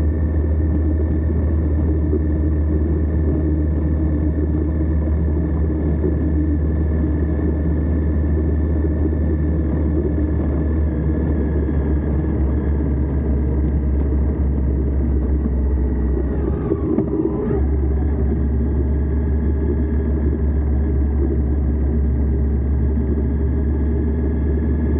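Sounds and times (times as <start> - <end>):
motorcycle engine running: 0.0 - 24.9
road noise: 0.0 - 24.9.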